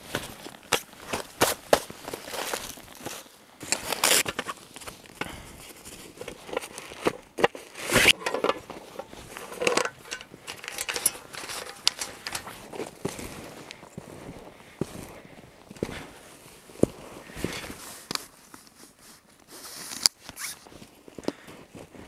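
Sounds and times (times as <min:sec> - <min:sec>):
footsteps on dry forest litter: 0:00.0 - 0:19.6.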